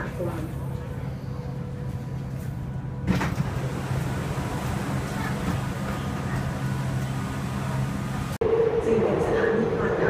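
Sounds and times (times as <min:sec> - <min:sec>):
metro train humming: 0:00.0 - 0:10.0.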